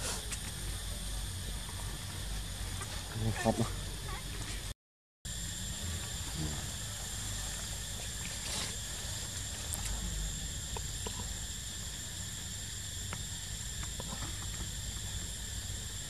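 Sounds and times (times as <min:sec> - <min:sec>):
forest insects droning: 0:00.0 - 0:04.7, 0:05.3 - 0:16.0.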